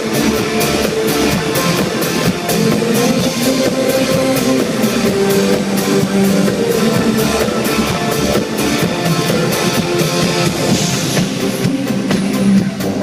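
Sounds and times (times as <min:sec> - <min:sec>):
live pop band music: 0:00.0 - 0:13.0.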